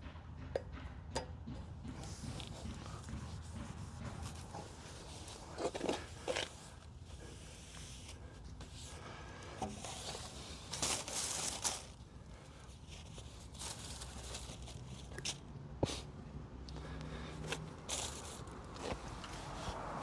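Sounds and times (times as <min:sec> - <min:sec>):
rustling and crinkling handling noise: 0:01.9 - 0:20.0.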